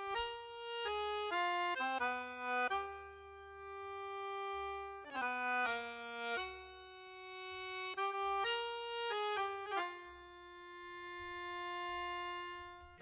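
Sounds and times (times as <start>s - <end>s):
slow instrumental music: 0.0s - 13.0s.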